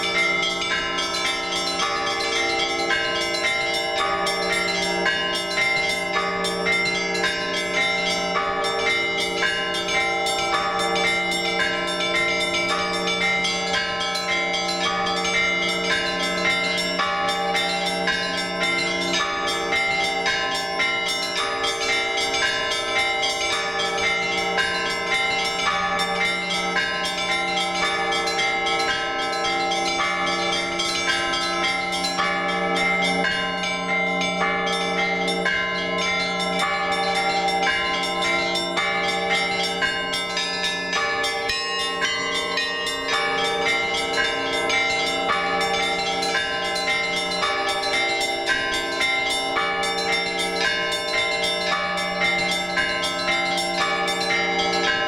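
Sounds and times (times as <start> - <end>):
low hum of large bell: 0.0 - 55.0
small church bells striking: 0.0 - 55.0.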